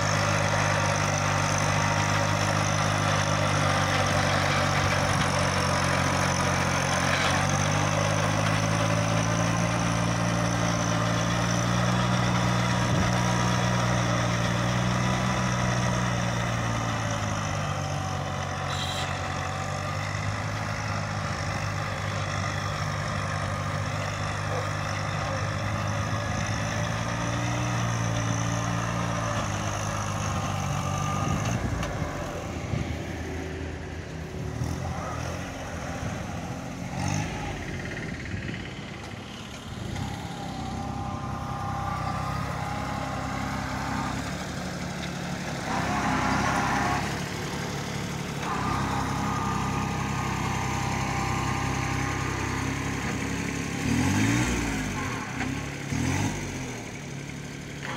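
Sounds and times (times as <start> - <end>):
rotary tiller working soil: 0.0 - 32.9, 34.2 - 57.9
diesel tractor engine running: 0.0 - 57.9.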